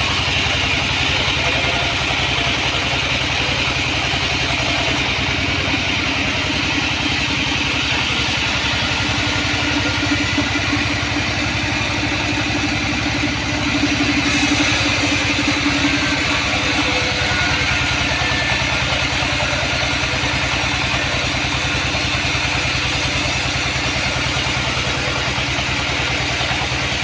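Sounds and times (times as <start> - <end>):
band saw running: 0.0 - 27.0
steady hum: 0.0 - 27.0.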